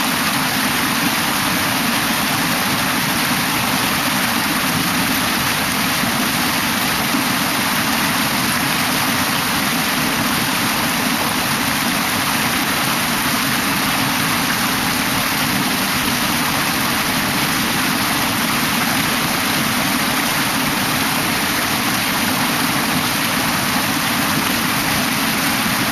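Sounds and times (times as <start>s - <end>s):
water rushing over rocks: 0.0s - 25.9s.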